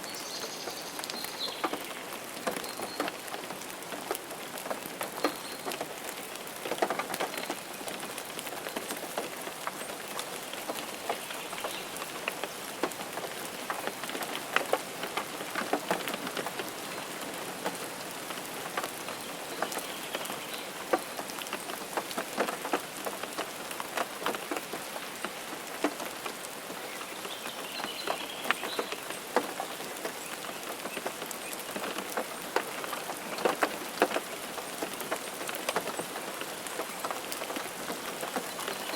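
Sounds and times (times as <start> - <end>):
raindrops tapping: 0.0 - 38.9
rainfall hiss: 0.0 - 38.9.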